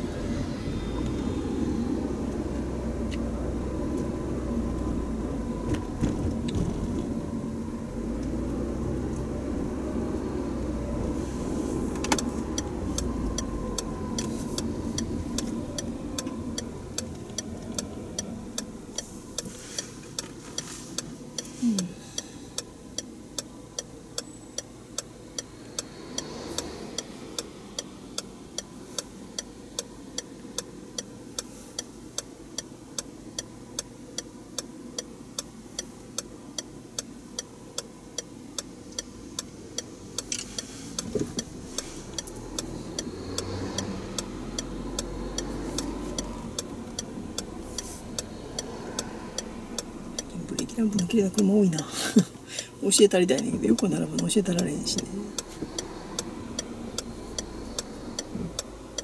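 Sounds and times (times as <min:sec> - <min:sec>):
car cabin and road noise: 0:00.0 - 0:59.0
turn signal ticking: 0:00.0 - 0:59.0.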